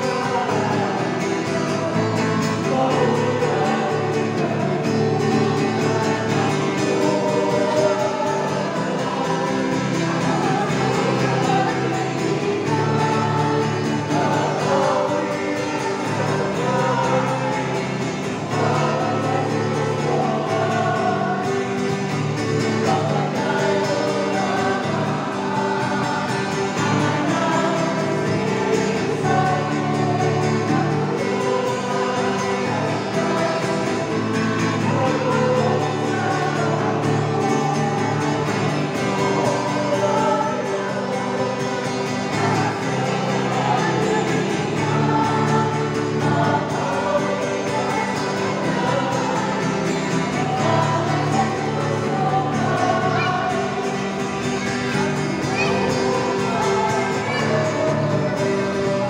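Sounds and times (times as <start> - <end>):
church choir singing a hymn: 0.0 - 59.0.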